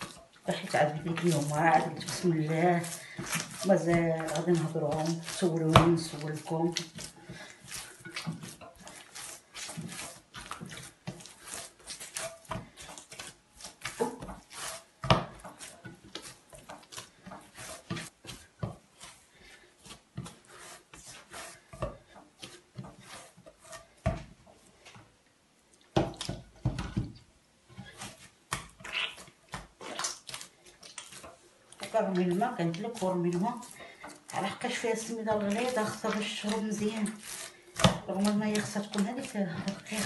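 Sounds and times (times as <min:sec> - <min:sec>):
hands kneading dough: 0:00.0 - 0:25.2, 0:25.8 - 0:40.0.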